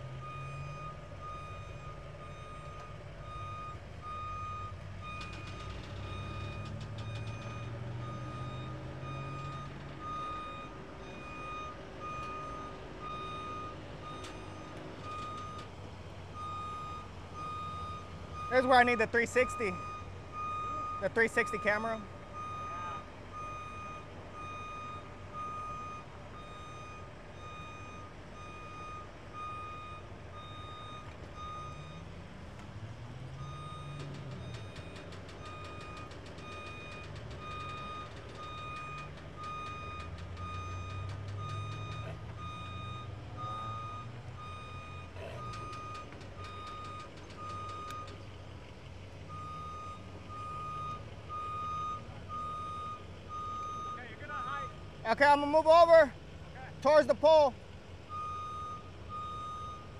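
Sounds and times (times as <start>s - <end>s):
lift truck motion alarm beeping: 0.0s - 59.9s
truck engine running: 0.0s - 59.9s.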